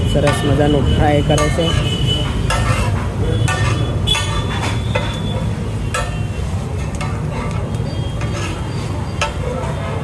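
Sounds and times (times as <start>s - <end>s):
metal spatula scraping pan: 0.2s - 10.0s.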